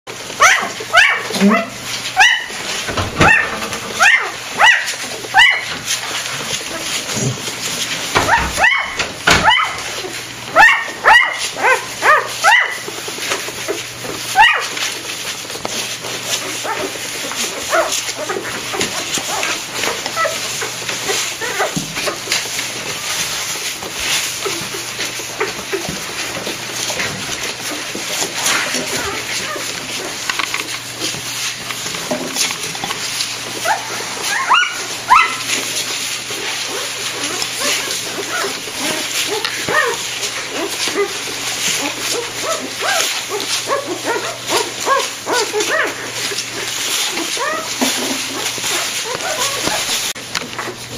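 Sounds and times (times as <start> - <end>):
puppies squeaking and whimpering: 0.4 - 31.6, 32.3 - 50.8.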